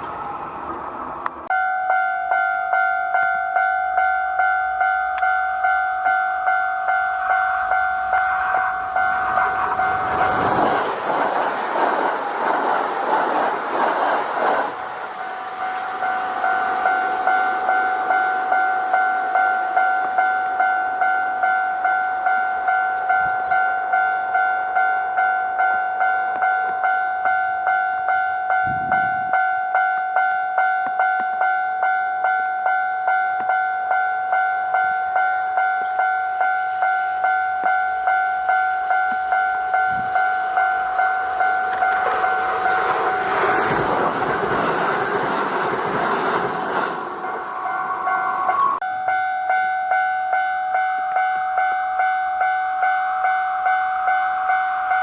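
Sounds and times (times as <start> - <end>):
train running: 0.0 - 55.0
electronic crossing bell: 1.5 - 10.9, 15.6 - 43.8, 46.0 - 55.0.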